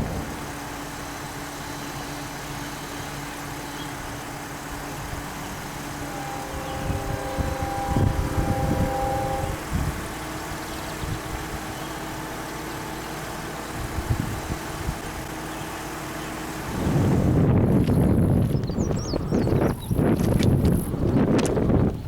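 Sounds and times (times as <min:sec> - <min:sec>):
held horn tones: 0:00.0 - 0:18.2
faint steady hum: 0:00.0 - 0:18.5
diesel locomotive engine rumble: 0:00.0 - 0:22.0.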